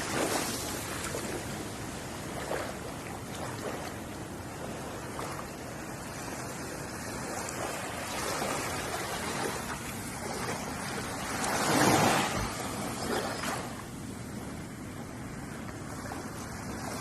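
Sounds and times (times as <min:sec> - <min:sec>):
ocean waves on shore: 0:00.0 - 0:17.0.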